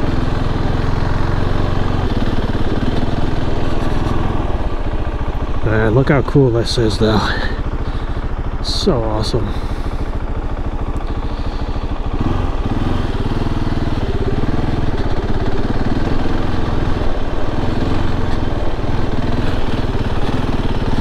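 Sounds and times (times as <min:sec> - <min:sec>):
motorcycle engine revving under load: 0:00.0 - 0:21.0.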